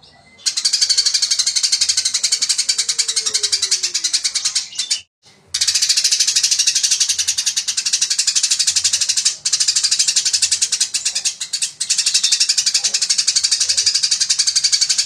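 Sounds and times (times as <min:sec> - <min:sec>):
sparrow chirping rapidly: 0:00.0 - 0:15.0.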